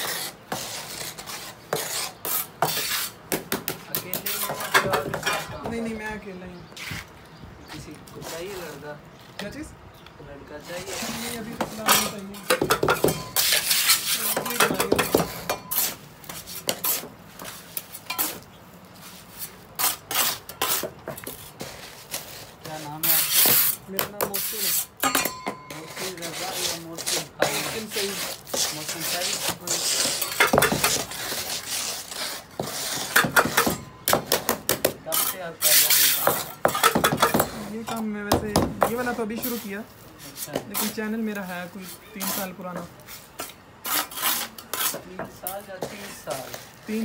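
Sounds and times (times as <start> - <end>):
trowel scraping and knocking cement: 0.0 - 6.0, 10.6 - 18.5, 19.1 - 47.0.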